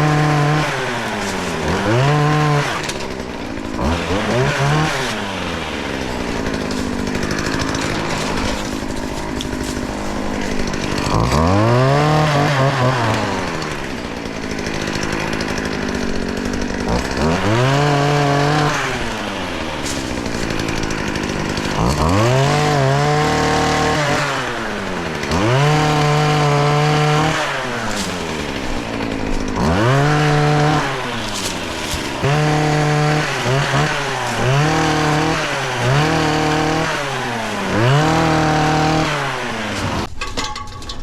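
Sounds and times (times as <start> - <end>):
chainsaw revving: 0.0 - 40.2.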